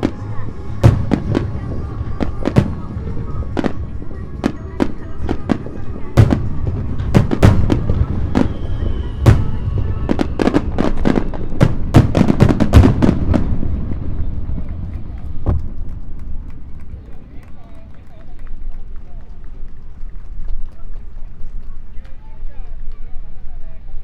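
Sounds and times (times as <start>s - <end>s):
low rumble: 0.0s - 19.7s
fireworks bangs: 0.0s - 21.3s.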